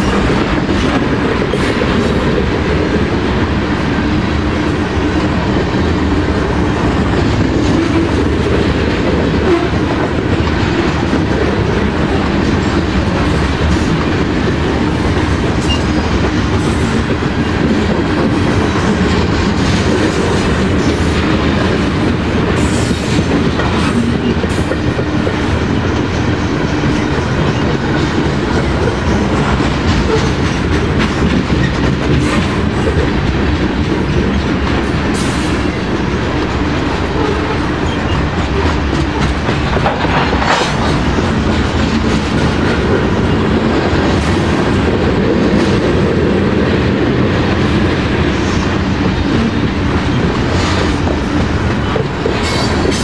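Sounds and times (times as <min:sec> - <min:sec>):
train wheel-on-rail noise: 0:00.0 - 0:53.0.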